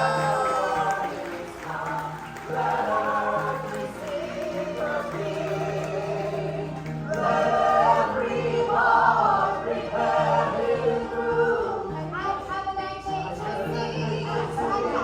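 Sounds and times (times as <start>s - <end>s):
group singing: 0.0s - 15.0s
musical accompaniment: 0.0s - 15.0s.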